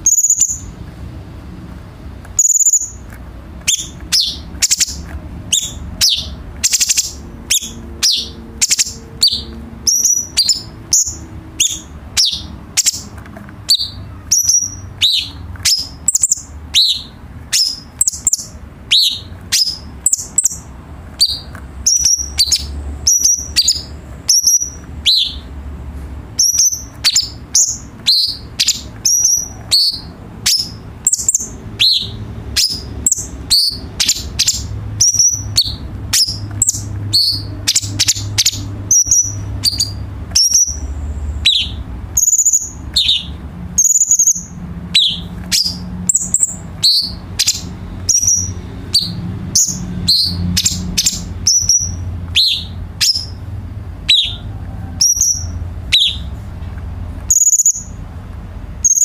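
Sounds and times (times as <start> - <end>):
bird singing high sharp notes: 0.0 - 0.8, 2.4 - 3.0, 3.6 - 25.5, 26.4 - 53.4, 55.0 - 56.3, 57.3 - 58.0.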